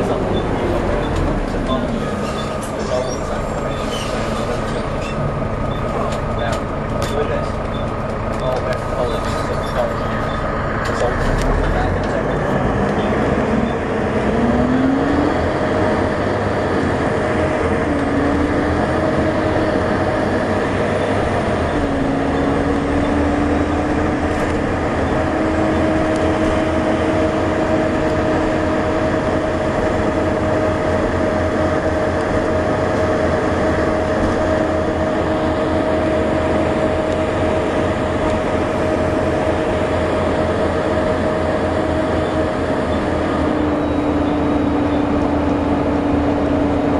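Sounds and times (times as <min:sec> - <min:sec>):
bus drivetrain whine: 0:00.0 - 0:46.9
low engine rumble: 0:00.0 - 0:46.9.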